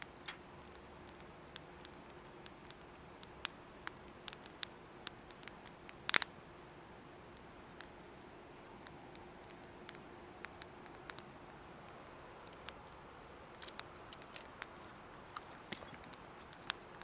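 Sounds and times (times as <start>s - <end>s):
faint steady hiss: 0.0s - 17.0s
wood fire crackling: 0.0s - 17.0s.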